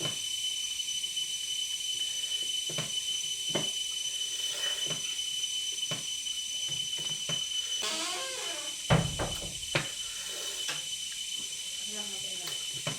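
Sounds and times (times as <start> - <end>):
thin high whine: 0.7 - 12.0.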